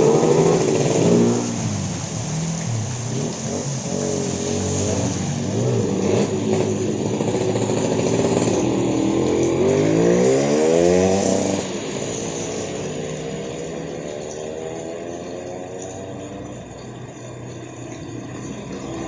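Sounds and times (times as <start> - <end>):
vehicle engine passing by: 0.0 - 16.8
rain hiss: 0.0 - 19.0.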